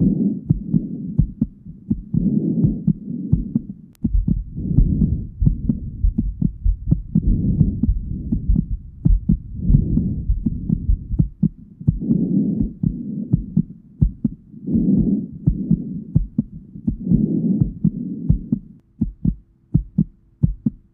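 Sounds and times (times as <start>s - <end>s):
heartbeat through stethoscope: 0.0s - 20.9s
steady low hum: 0.0s - 20.9s.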